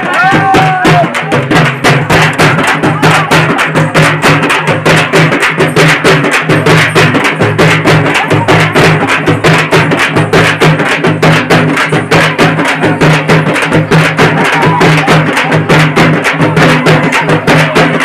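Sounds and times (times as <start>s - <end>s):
fast drumming: 0.0s - 18.0s.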